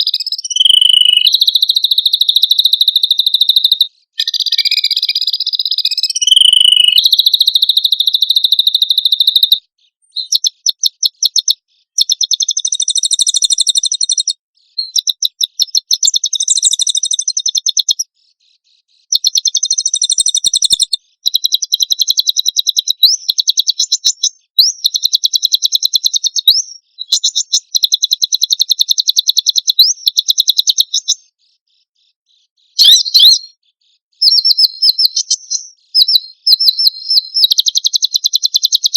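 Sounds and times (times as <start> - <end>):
songbird rapid chirping: 0.0 - 38.9.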